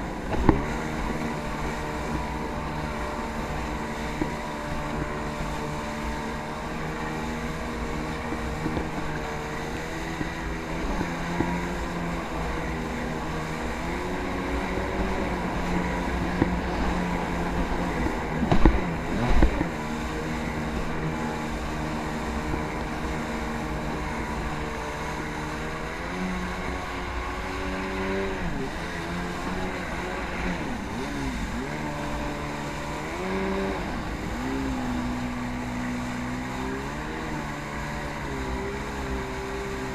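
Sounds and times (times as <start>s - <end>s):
jet ski engine revving: 0.0s - 39.9s
wind rumbling on microphone: 0.0s - 39.9s.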